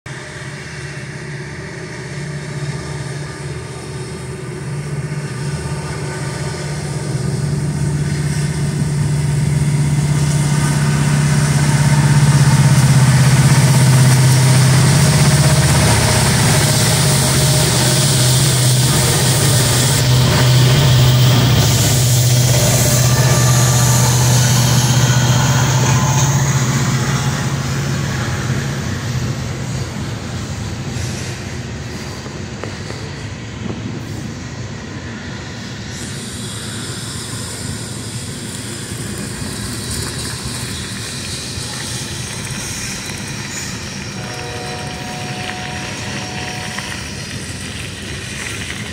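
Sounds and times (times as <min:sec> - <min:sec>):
diesel locomotive drone: 0:00.0 - 0:48.9
train wheels rolling on rails: 0:00.1 - 0:48.9.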